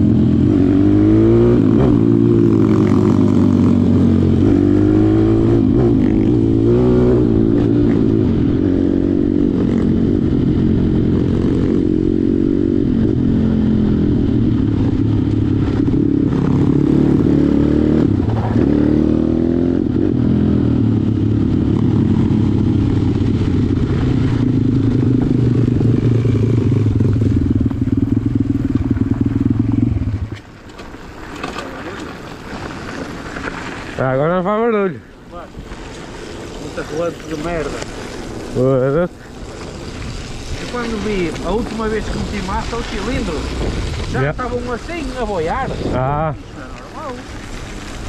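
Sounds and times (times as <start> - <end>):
motorbike engine revving: 0.0 - 30.4, 36.0 - 48.0.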